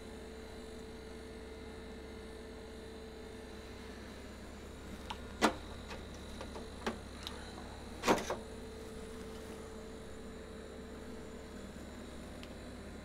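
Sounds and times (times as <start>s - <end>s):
dehumidifier humming: 0.0s - 13.0s.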